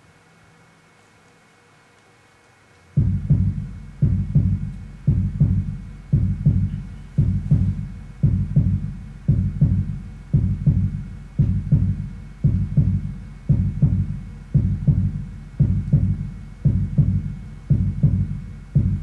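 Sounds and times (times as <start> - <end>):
heartbeat thumps over loudspeakers: 3.0 - 19.0.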